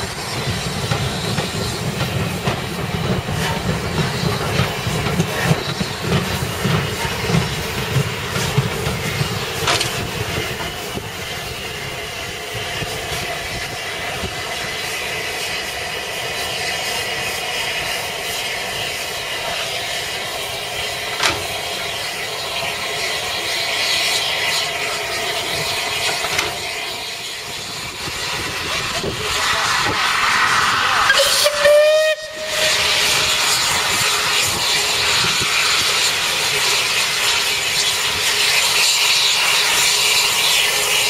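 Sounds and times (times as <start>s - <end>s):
steam hissing: 0.0s - 41.0s.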